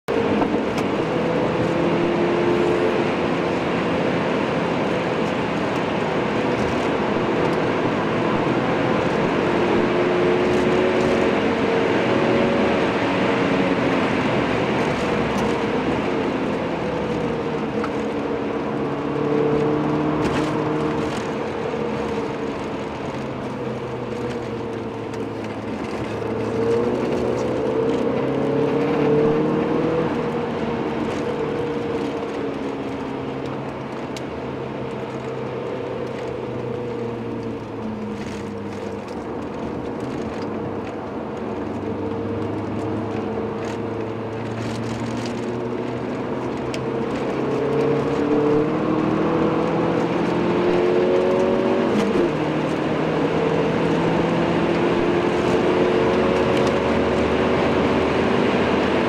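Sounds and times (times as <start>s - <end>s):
car engine revving: 0.1s - 59.0s.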